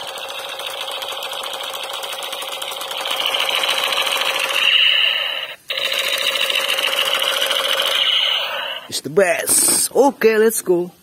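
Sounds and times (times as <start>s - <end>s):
toy gun machine-gun rattle: 0.0s - 8.9s.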